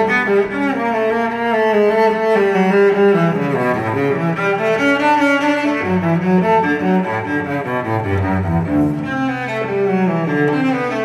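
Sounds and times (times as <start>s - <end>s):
bowed strings playing melody: 0.0s - 11.0s.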